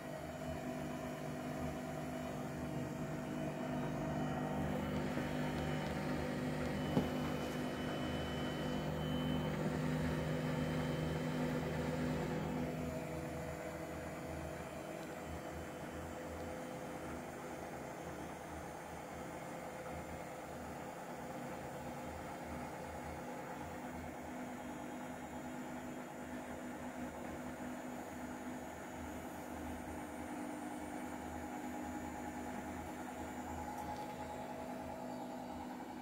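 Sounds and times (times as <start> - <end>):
washing machine spin hum: 0.0 - 36.0.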